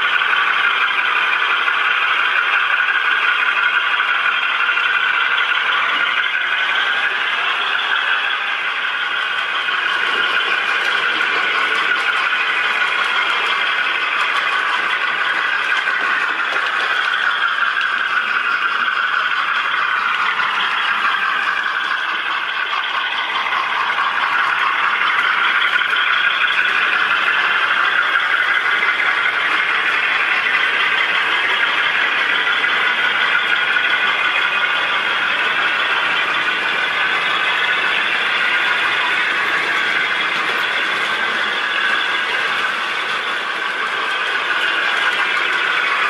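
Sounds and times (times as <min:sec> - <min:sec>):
model train motor whine: 0:00.0 - 0:46.0.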